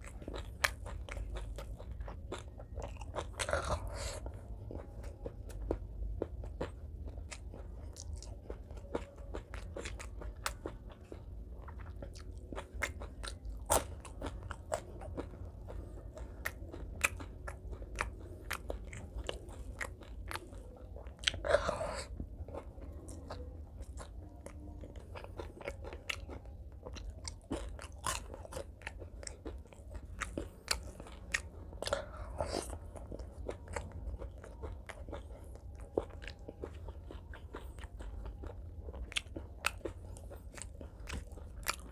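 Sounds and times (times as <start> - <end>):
chewing and crunching food: 0.0 - 41.9.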